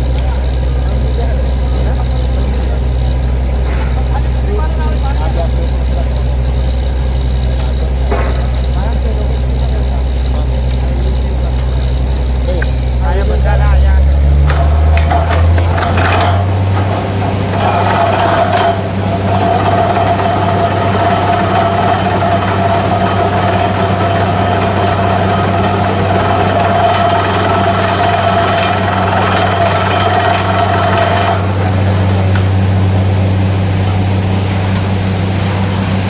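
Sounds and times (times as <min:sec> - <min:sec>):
drilling rig engine hum: 0:00.0 - 0:36.0
high whine: 0:00.0 - 0:36.0.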